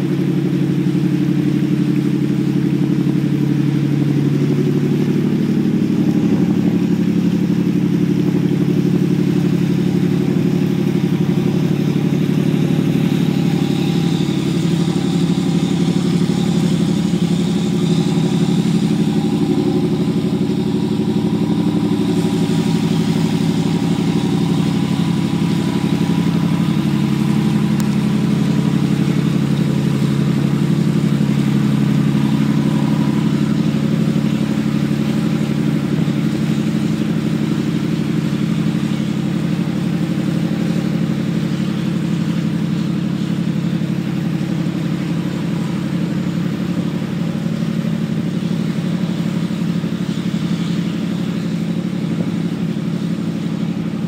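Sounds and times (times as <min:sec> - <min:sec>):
boat engines humming: 0:00.0 - 0:54.0
propellers churning water: 0:00.0 - 0:54.0.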